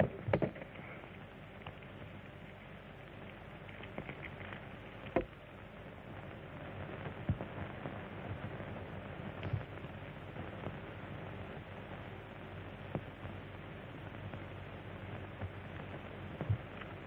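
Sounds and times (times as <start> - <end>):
film soundtrack hiss: 0.0 - 17.0.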